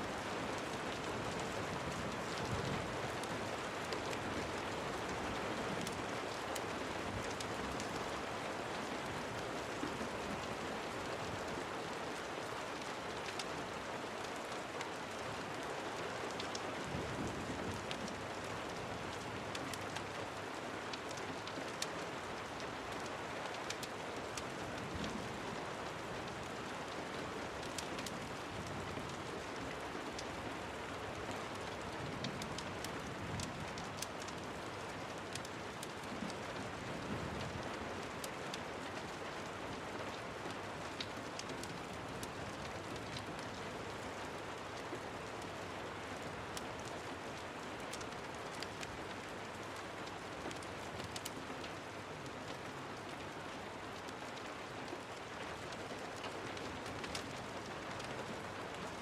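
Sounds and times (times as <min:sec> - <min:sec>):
steady rain: 0:00.0 - 0:59.0
wood fire crackling: 0:00.2 - 0:15.6, 0:16.3 - 0:59.0.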